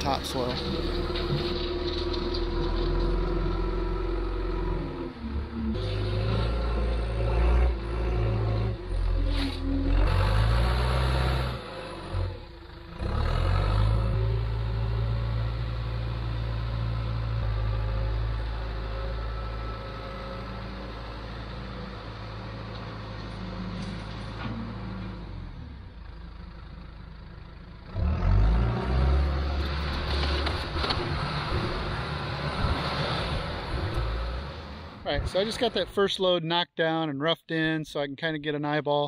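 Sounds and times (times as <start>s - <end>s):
diesel engine under load: 0.0s - 36.0s.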